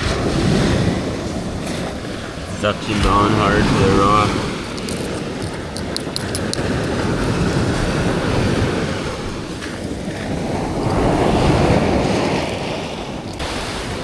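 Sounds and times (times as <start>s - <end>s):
sea waves washing over rocks: 0.0s - 14.0s
wind buffeting microphone: 0.0s - 14.0s.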